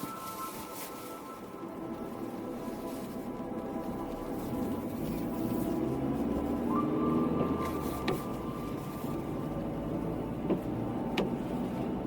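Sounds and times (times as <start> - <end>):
slow ambient music: 0.0 - 12.0.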